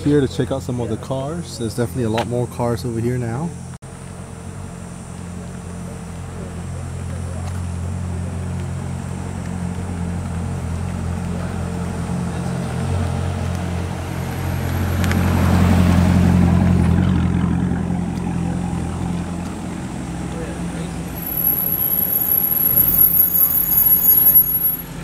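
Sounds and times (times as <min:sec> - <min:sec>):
car engine idling: 0:03.4 - 0:25.0.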